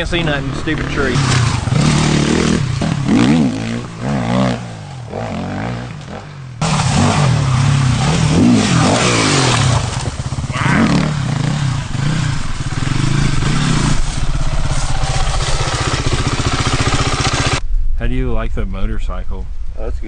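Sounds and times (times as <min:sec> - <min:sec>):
dirt bike engine revving: 0:00.0 - 0:17.6.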